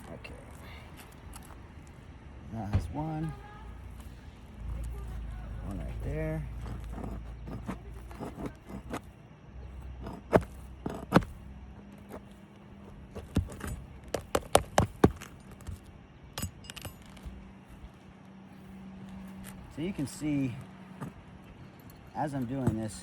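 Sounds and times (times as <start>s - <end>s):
tool scraping under shingles: 2.9s - 23.0s.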